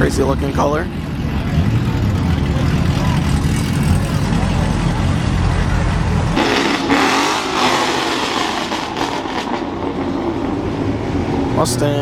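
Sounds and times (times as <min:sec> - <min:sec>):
car engine accelerating hard: 0:01.1 - 0:12.0.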